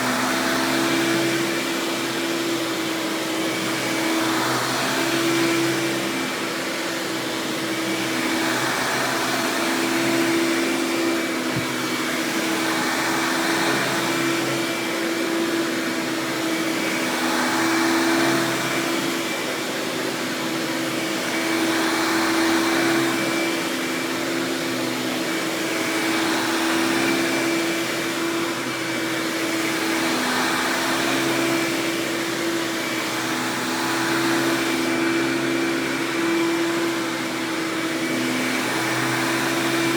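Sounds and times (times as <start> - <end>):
vacuum cleaner motor hum: 0.0 - 39.9.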